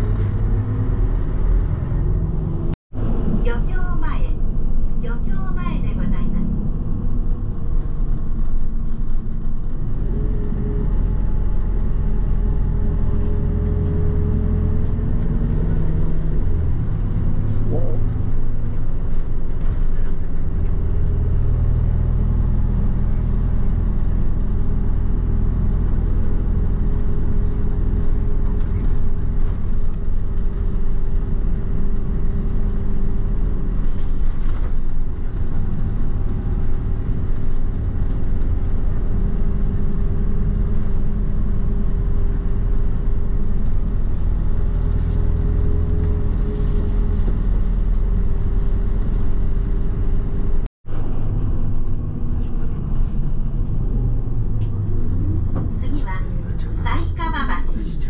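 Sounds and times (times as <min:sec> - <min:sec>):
constant low hum: 0:00.0 - 0:58.0
vehicle engine and road rumble: 0:00.0 - 0:58.0.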